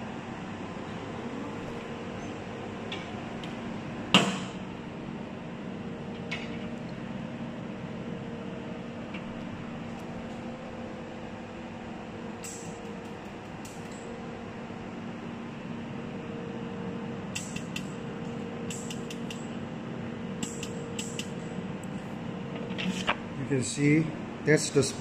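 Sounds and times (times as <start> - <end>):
electrical machine hum: 0.0 - 25.0.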